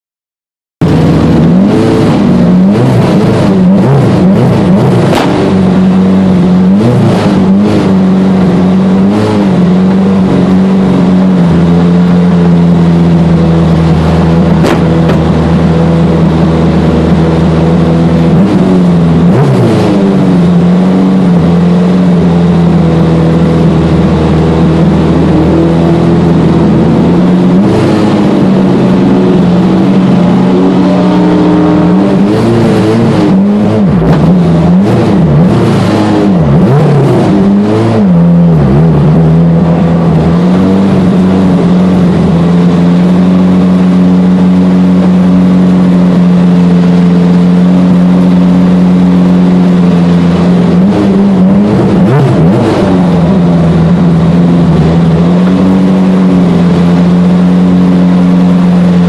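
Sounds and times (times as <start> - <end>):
car engine revving and idling: 0.8 - 59.0.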